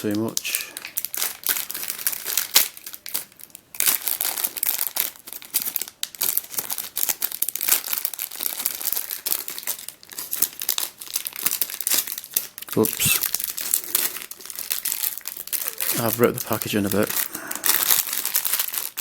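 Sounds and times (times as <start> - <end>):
packaging crinkling and crackling: 0.0 - 19.0.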